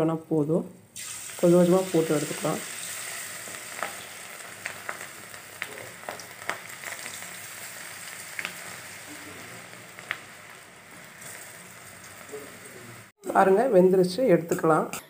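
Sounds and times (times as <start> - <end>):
batter sizzling in hot oil: 0.9 - 13.2
oil popping and crackling: 1.0 - 13.1.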